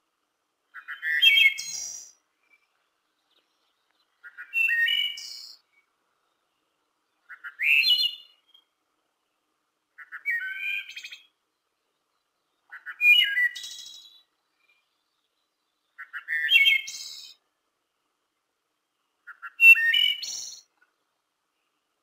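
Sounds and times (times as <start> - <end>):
blackbird singing trilled song: 0.7 - 9.4, 10.0 - 17.5, 19.2 - 21.8.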